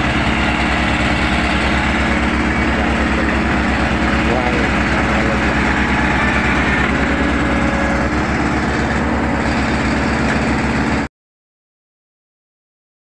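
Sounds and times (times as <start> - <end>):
diesel engines idling: 0.0 - 11.1.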